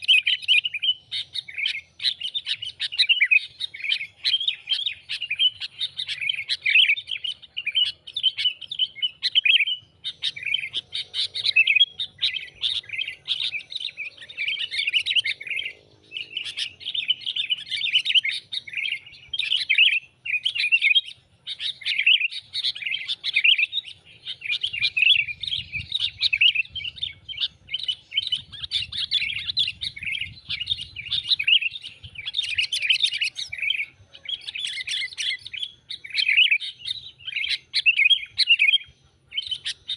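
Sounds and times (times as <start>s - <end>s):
bulbul chattering chirps: 0.0s - 39.9s.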